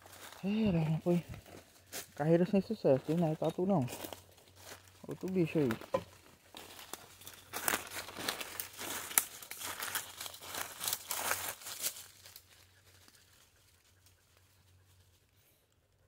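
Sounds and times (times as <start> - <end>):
dry leaves and twigs crackling: 0.0 - 15.9.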